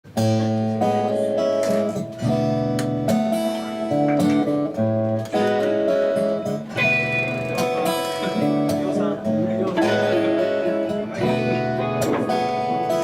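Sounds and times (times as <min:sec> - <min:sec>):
acoustic guitar strumming chords: 0:00.1 - 0:13.0.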